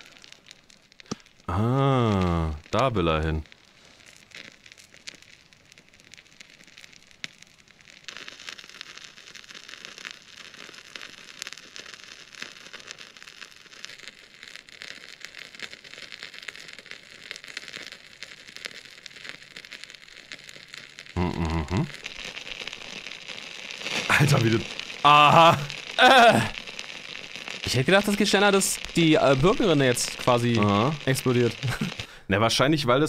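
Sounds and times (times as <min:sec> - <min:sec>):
candle crackling and popping: 0:00.0 - 0:33.0.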